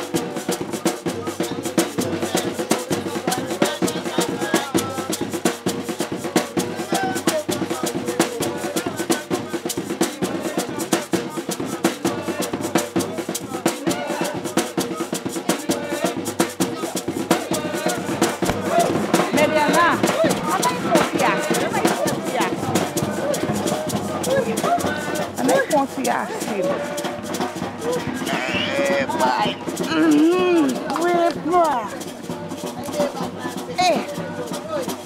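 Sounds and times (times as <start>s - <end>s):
hand-drum dance music: 0.0s - 35.0s
voices: 0.0s - 35.0s.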